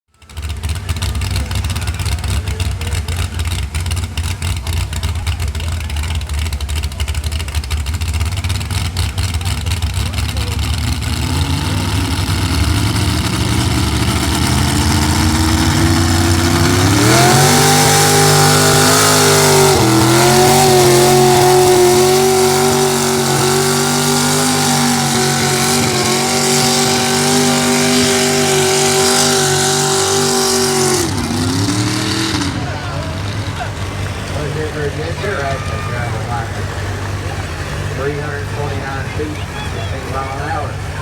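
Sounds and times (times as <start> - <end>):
truck engine revving under load: 0.1 - 41.0.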